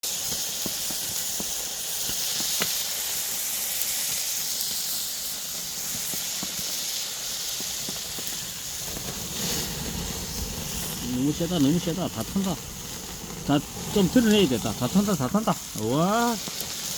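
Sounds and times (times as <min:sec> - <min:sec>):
meat sizzling: 0:00.0 - 0:16.9.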